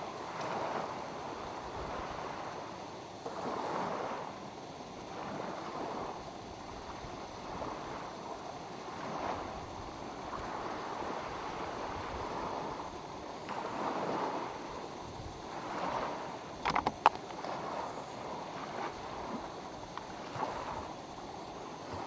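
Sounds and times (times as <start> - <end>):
small waves lapping on shore: 0.0 - 22.0.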